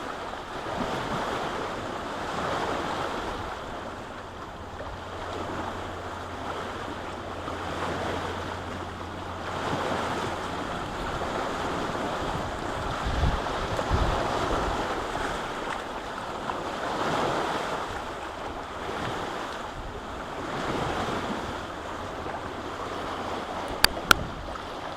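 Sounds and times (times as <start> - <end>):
lake waves washing against shore: 0.0 - 24.9
wind buffeting microphone: 0.0 - 24.9.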